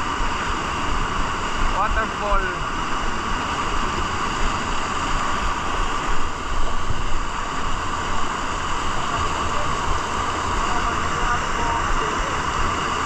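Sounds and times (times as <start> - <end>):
waterfall rushing over boulders: 0.0 - 13.0.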